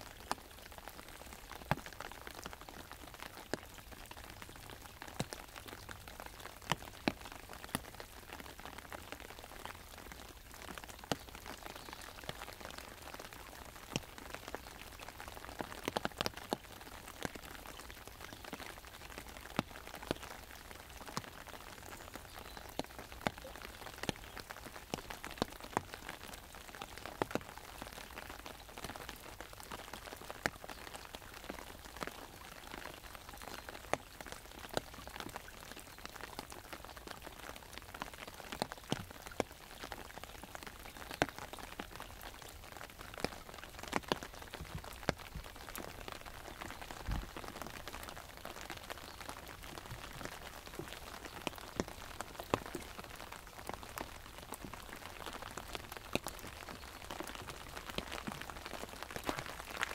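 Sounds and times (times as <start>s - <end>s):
rain pattering on umbrella: 0.0s - 59.9s.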